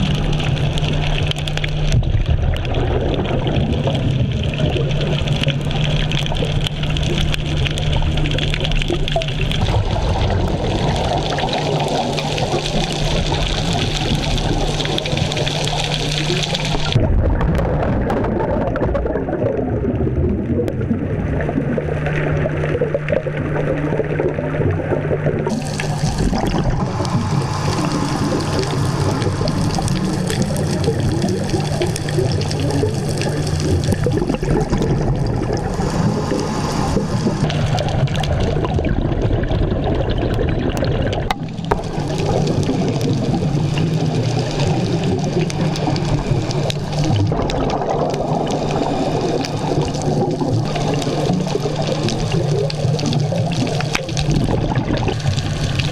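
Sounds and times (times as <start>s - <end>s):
low hum: 0.0s - 55.9s
underwater rushing water and bubbles: 0.0s - 55.9s.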